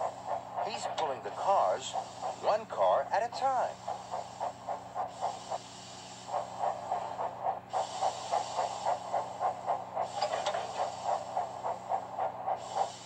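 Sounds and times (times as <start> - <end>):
cartoon steam locomotive chuffing: 0.0 - 13.0
steam hissing: 0.0 - 13.0.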